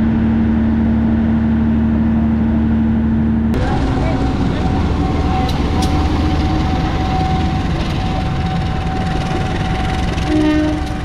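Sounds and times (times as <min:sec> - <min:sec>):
train rumbling: 0:00.0 - 0:11.0
train whine: 0:00.0 - 0:11.0.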